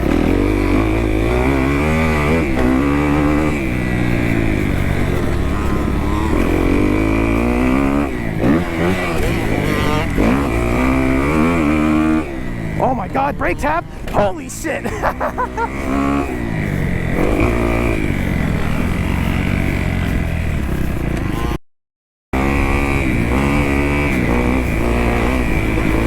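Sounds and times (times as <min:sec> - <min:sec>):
motocross bike engine revving: 0:00.0 - 0:21.6, 0:22.4 - 0:26.0.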